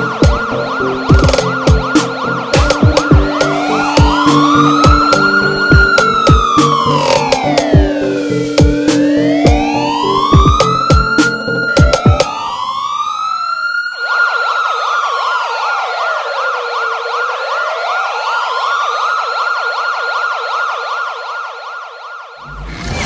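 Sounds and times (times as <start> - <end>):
electronic siren wailing: 0.0 - 23.0
fast warbling siren: 0.0 - 23.0.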